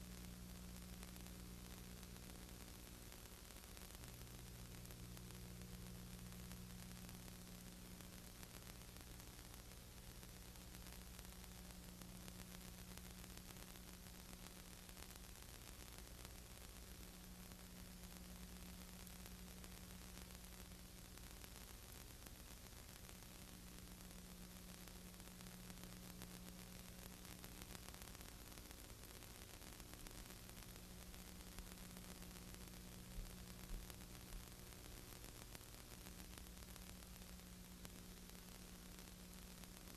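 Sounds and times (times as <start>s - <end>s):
low electrical hum: 0.0s - 39.9s
recording hiss: 0.0s - 39.9s.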